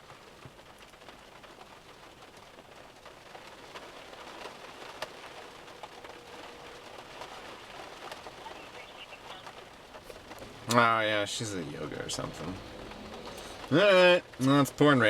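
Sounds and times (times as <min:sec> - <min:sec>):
pouring rain: 0:00.0 - 0:15.0
raindrops ticking on surface: 0:00.0 - 0:15.0.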